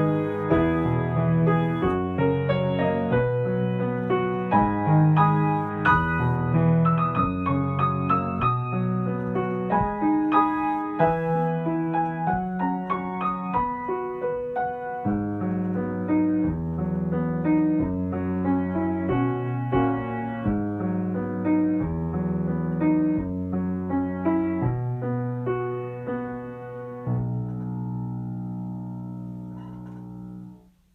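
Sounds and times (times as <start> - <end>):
solo piano music: 0.0 - 30.9.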